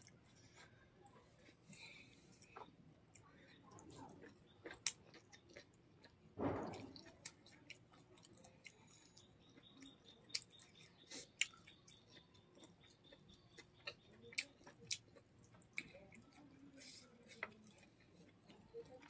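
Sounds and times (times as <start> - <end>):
chewing food: 0.0 - 19.0.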